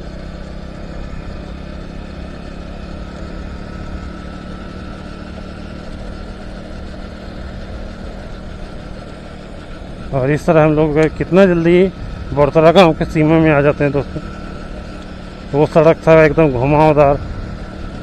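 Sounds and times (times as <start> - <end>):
motorcycle engine running: 0.0 - 18.0
wind and tyre noise: 0.0 - 18.0.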